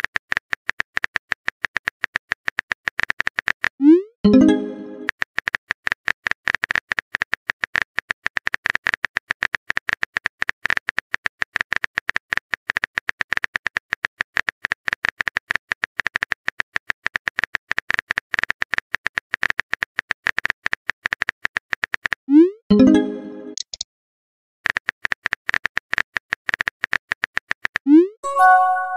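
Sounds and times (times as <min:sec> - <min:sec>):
keyboard typing: 0:01.7 - 0:23.8, 0:24.6 - 0:28.0.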